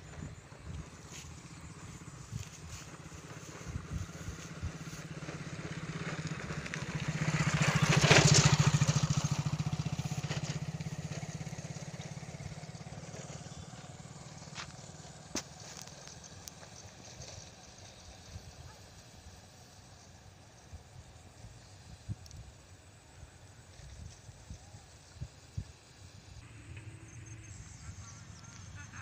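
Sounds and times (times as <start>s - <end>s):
vehicle engine passing by: 0.0s - 20.7s, 26.4s - 29.0s.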